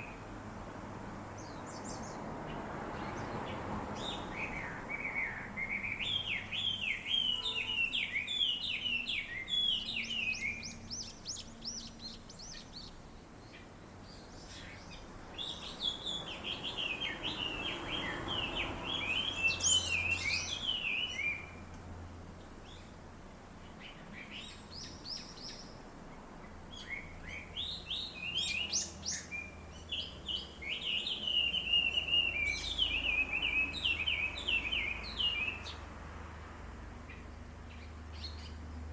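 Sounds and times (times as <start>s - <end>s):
small birds chirping: 1.2s - 35.9s, 36.9s - 38.9s.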